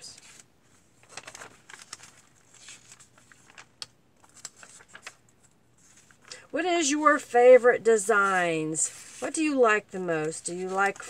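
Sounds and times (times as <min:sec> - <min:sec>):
paper rustling: 0:00.1 - 0:06.4, 0:08.0 - 0:11.0.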